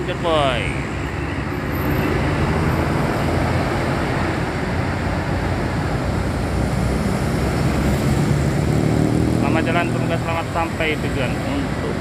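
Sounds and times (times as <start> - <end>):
buses driving past: 0.0 - 12.0.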